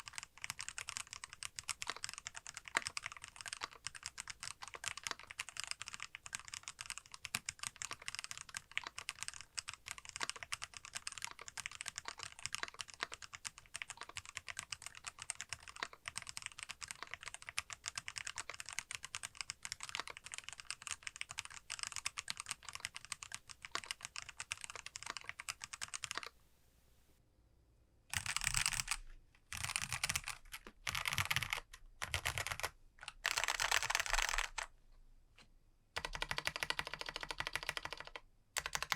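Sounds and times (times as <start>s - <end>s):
mechanical keyboard typing: 0.0s - 26.3s, 28.1s - 34.7s, 36.0s - 38.9s.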